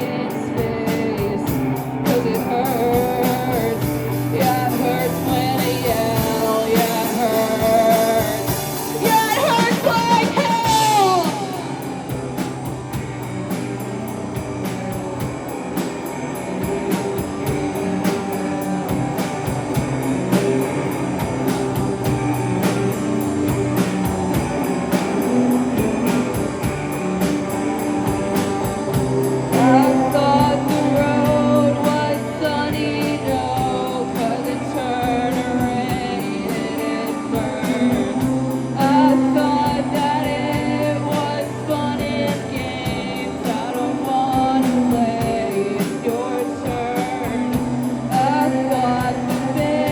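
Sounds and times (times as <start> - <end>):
drums steady beat: 0.0 - 49.9
rock band playing live: 0.0 - 49.9.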